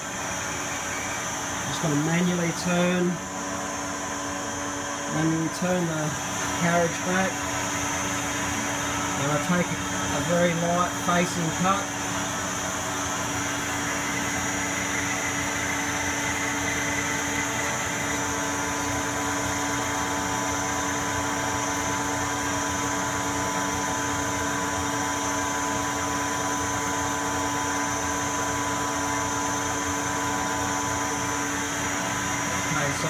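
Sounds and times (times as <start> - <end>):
high whine of lathe cutting: 0.0 - 33.0
lathe machine hum: 0.0 - 33.0.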